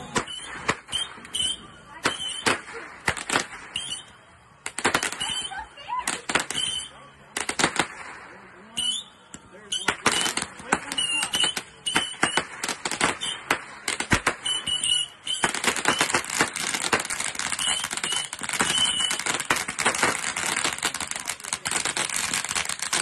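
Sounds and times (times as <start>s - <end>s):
fireworks popping and crackling: 0.0s - 23.0s
fireworks whistles: 0.0s - 23.0s.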